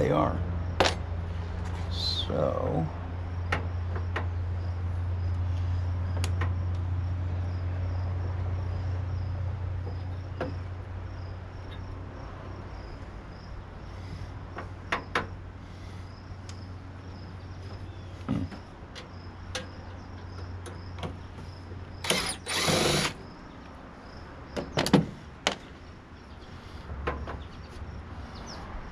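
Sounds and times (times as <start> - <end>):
cricket chirping: 0.0 - 28.9.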